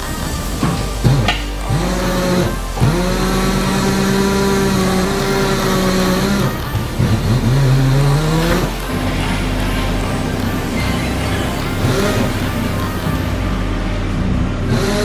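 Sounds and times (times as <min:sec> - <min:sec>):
tire changer turntable hum: 0:00.0 - 0:15.0
wheel balancer whine: 0:00.0 - 0:15.0.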